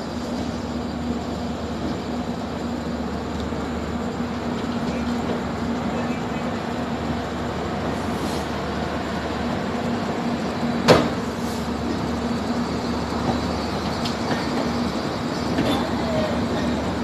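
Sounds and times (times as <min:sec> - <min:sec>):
train coaches rumbling past: 0:00.0 - 0:17.0.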